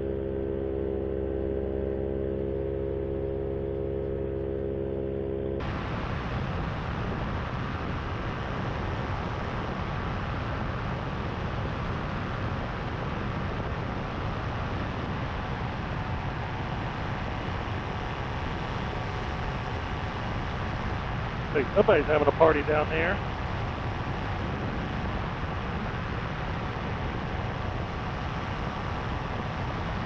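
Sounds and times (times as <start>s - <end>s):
paramotor engine and propeller: 0.0s - 30.0s
wind rush: 5.6s - 30.0s.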